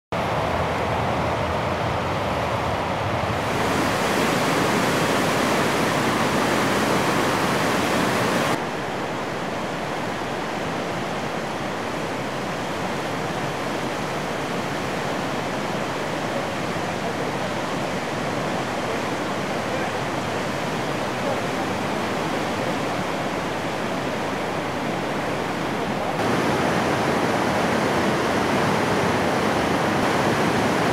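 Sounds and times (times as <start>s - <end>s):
floodwater rushing past bridge piers: 0.2s - 30.9s.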